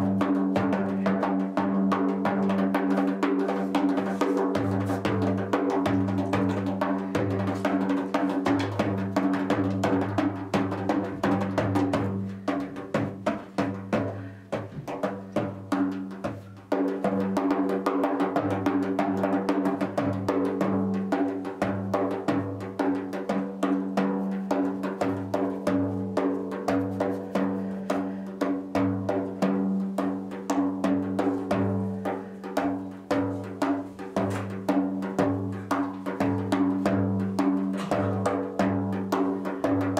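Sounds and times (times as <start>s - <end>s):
frame drum hand strokes: 0.0s - 17.3s, 21.2s - 39.7s.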